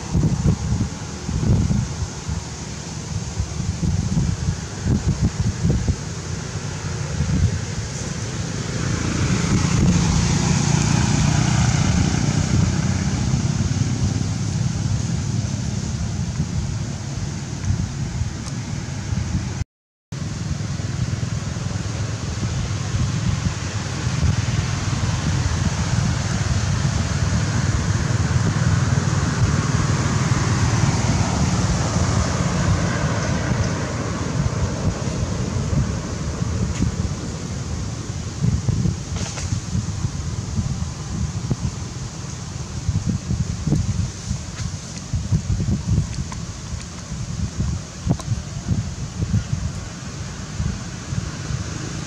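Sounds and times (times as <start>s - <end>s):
wind buffeting microphone: 0.0s - 19.6s, 20.2s - 52.0s
outdoor background hiss: 0.0s - 52.0s.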